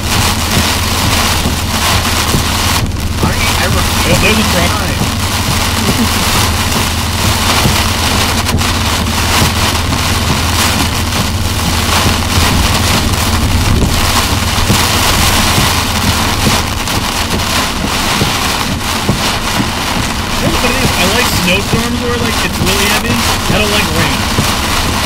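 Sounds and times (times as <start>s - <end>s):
engine and tyre drone: 0.0s - 25.0s
heavy rain on roof: 0.0s - 25.0s.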